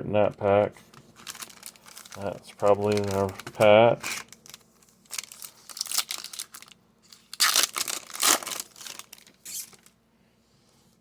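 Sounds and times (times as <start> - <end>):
wrapper crinkling and tearing: 0.9 - 10.0.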